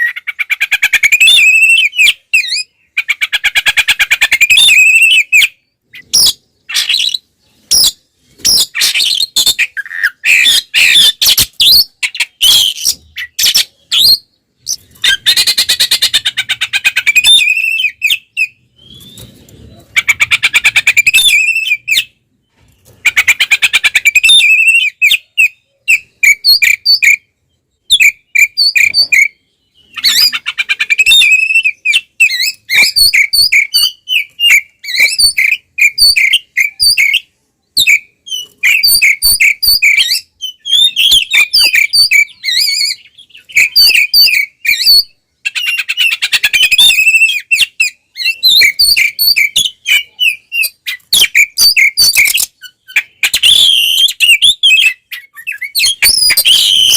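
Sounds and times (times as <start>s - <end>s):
bird singing whistled song: 0.0s - 16.2s, 16.8s - 19.4s, 20.4s - 22.2s, 23.1s - 56.9s.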